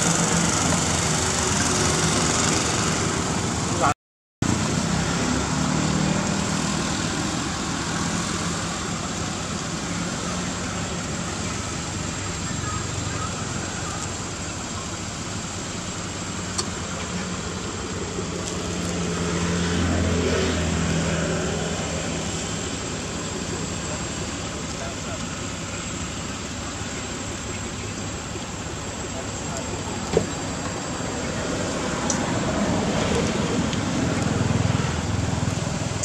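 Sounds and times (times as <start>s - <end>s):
road traffic noise: 0.0s - 36.0s
vehicle engine hum: 0.0s - 36.0s.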